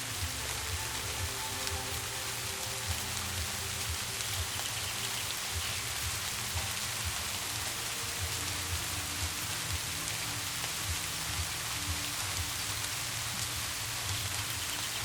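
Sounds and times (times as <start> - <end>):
rain falling on a surface: 0.0 - 15.0
soft held music notes: 0.0 - 15.0.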